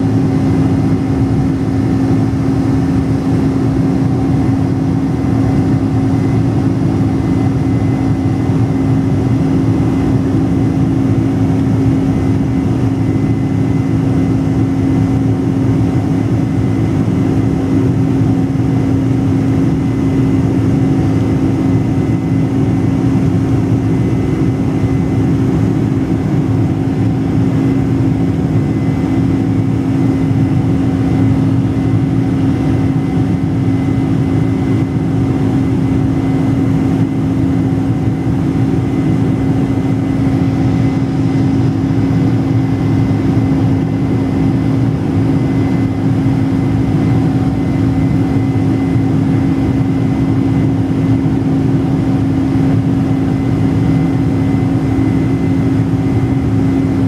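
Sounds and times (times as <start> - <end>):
faint high engine whine: 0.0 - 57.0
jet engine drone in cabin: 0.0 - 57.0.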